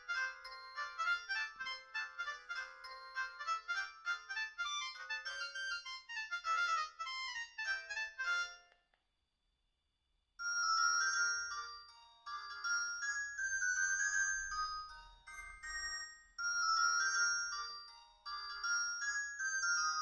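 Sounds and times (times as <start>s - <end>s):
synthesized ringtone melody: 0.0s - 8.6s, 10.4s - 20.0s.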